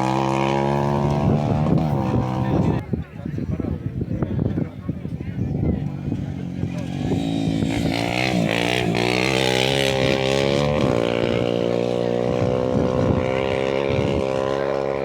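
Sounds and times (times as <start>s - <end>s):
rally vehicle engine accelerating: 0.0s - 2.8s, 5.8s - 15.0s.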